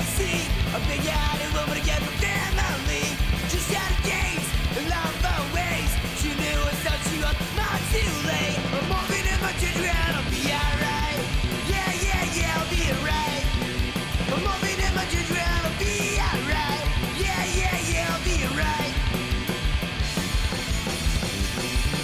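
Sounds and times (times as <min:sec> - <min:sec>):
punk rock band playing: 0:00.0 - 0:22.0
shouted lead vocals: 0:00.0 - 0:22.0.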